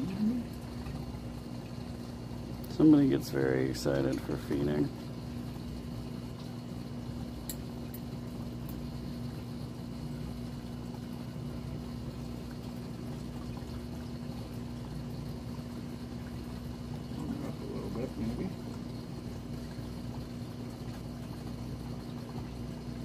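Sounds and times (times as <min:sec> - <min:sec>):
aquarium pump hum: 0:00.0 - 0:23.0.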